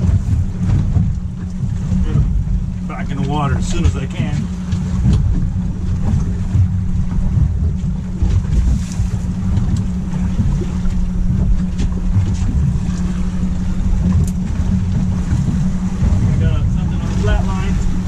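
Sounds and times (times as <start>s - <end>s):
water sloshing against boat hull: 0.0s - 18.0s
wind buffeting microphone: 0.0s - 18.0s.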